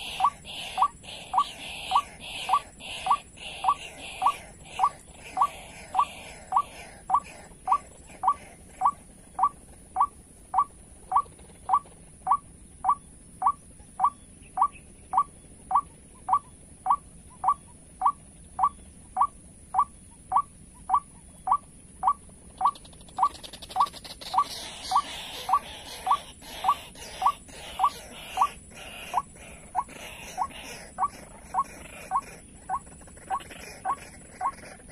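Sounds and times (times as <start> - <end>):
steady high whine: 0.0 - 34.9.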